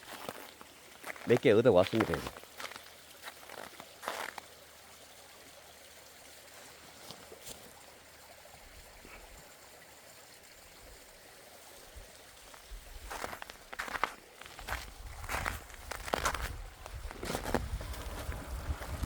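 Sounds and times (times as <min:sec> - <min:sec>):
running water: 0:00.0 - 0:19.0.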